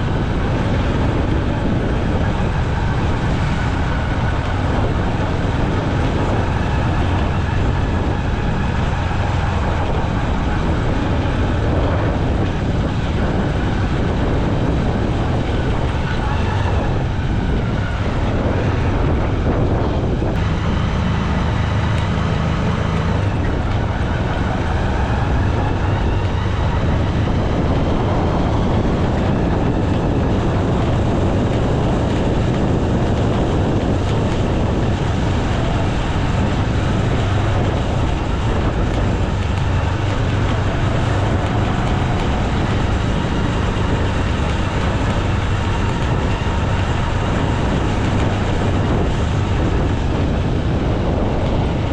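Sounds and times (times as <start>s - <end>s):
motorcycle engine running: 0.0s - 51.9s
wind noise: 0.0s - 51.9s.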